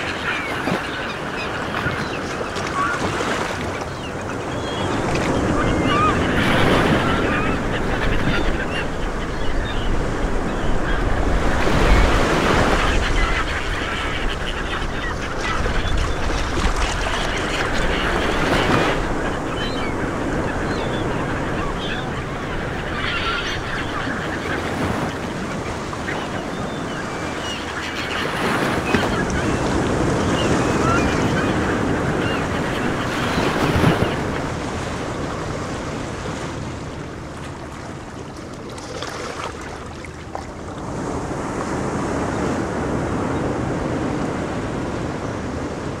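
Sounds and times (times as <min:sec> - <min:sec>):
ocean waves and surf: 0:00.0 - 0:46.0.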